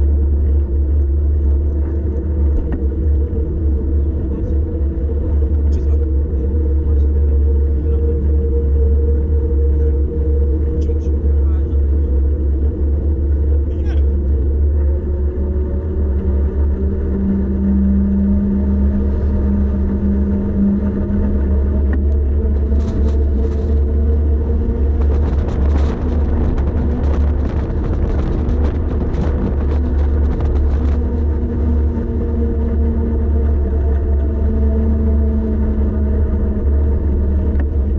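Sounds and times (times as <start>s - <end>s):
bicycle road noise: 0.0s - 37.9s
wind rumble on microphone: 0.0s - 37.9s.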